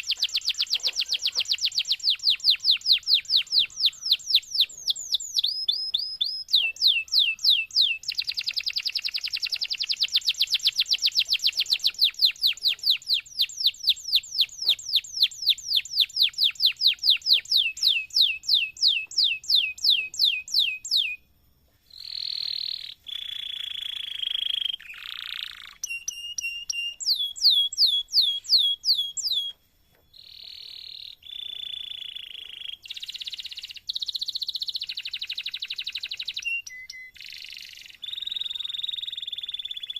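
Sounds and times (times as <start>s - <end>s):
canary singing: 0.0s - 21.3s, 21.9s - 39.9s.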